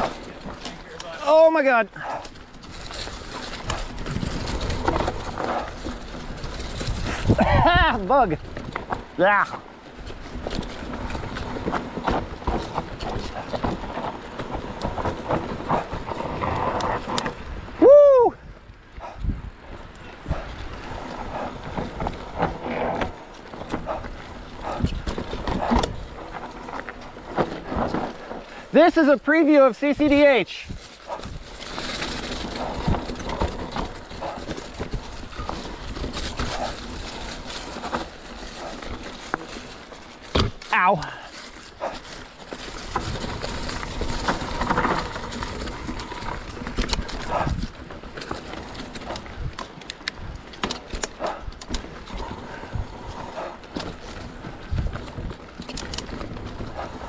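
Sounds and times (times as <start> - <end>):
bike knocking and rattling: 0.0 - 57.0
bike tyres on dirt: 0.0 - 57.0.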